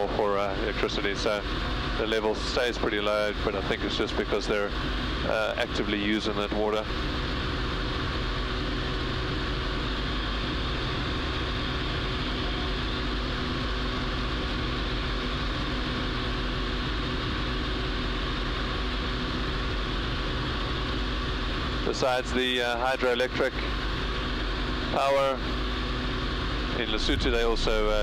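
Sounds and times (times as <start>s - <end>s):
plane engine and propeller droning: 0.0s - 28.0s.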